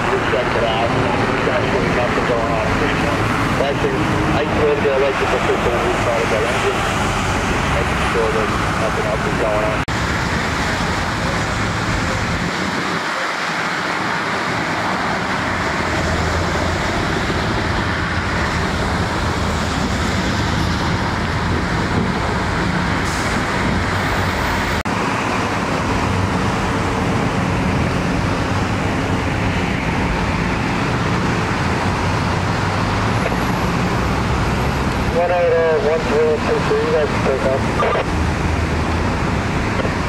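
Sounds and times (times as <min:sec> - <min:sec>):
road traffic noise: 0:00.0 - 0:40.0.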